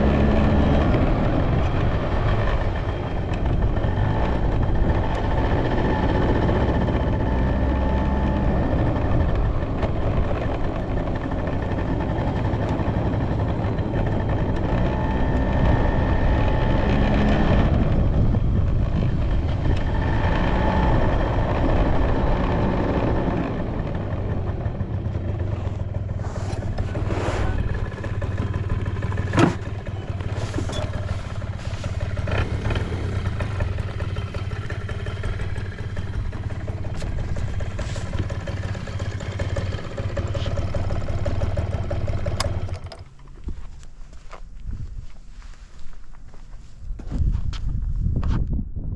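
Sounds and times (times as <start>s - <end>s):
scooter engine running: 0.0s - 44.2s.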